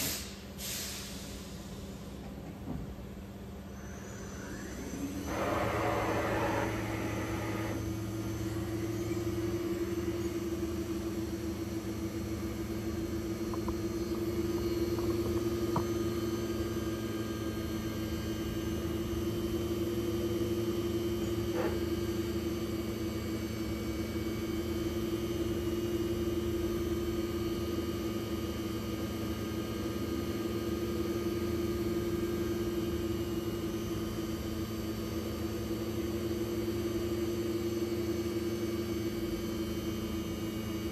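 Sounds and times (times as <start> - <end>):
machine spindle hum: 3.5 - 40.9.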